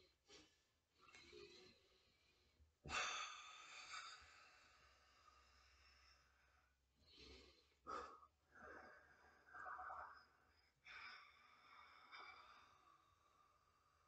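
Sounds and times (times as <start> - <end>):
faint breaths and sighs: 0.0 - 14.0.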